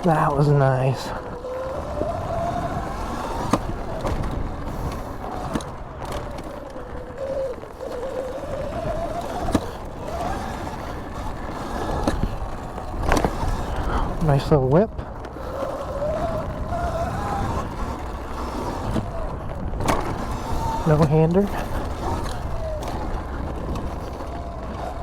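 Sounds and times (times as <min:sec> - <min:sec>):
electric motor whine: 0:00.0 - 0:25.0
tyres rumbling on dirt: 0:00.0 - 0:25.0
wind noise: 0:00.0 - 0:25.0.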